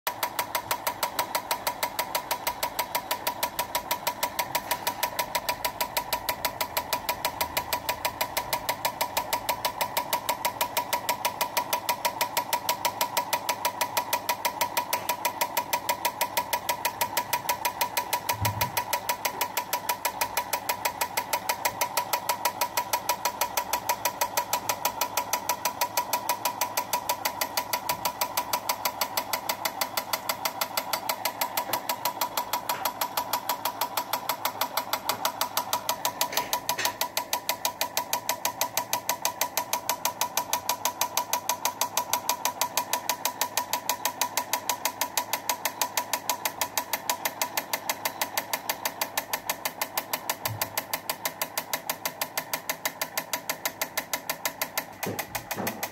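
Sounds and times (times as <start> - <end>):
chart recorder mechanism ticking: 0.1 - 55.9.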